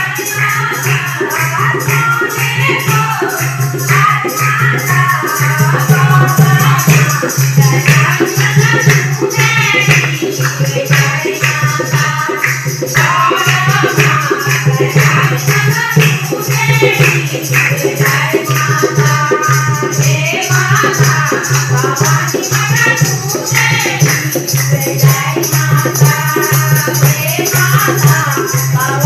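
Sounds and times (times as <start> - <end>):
dholak drum beat: 0.0 - 29.0
jingling percussion: 0.0 - 29.0
women singing devotional song: 0.0 - 29.0.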